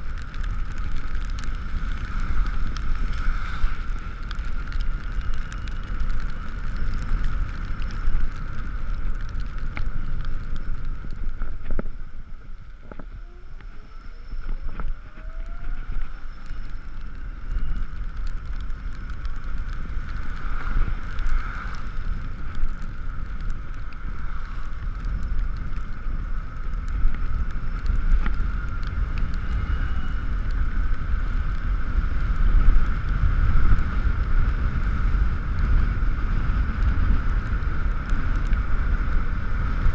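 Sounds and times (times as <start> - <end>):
electric scooter motor whine: 0.0 - 39.9
road rumble: 0.0 - 39.9
wind buffeting microphone: 0.0 - 39.9.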